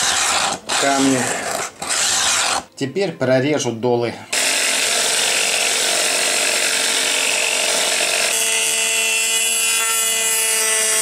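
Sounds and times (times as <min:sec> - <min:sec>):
rotary tool grinding steel: 0:00.0 - 0:02.7, 0:04.4 - 0:11.0.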